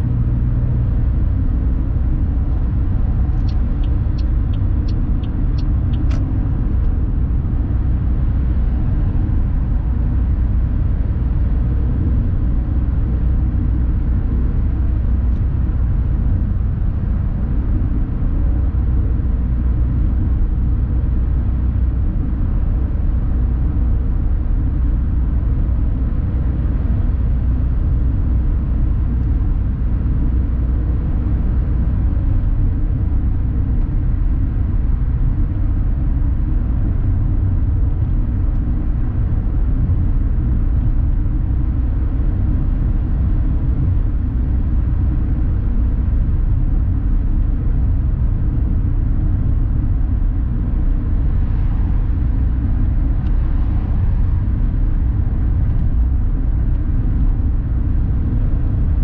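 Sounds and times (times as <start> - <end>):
in-cabin road and engine noise: 0.0 - 59.0.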